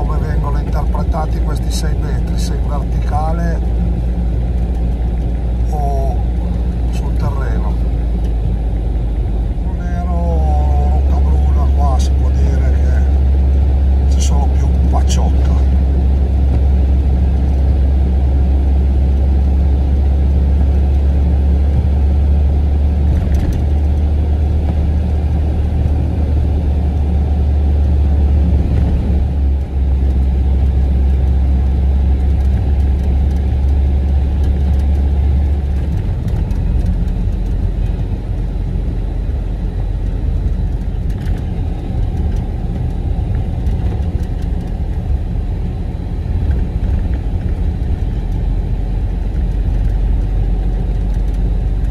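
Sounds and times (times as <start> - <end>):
road noise: 0.0 - 51.9
truck engine drone: 0.0 - 51.9.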